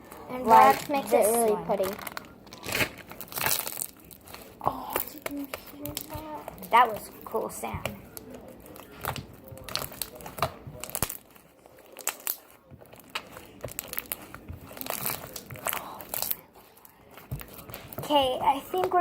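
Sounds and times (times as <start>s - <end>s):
slime squishing with pops: 0.0s - 19.0s.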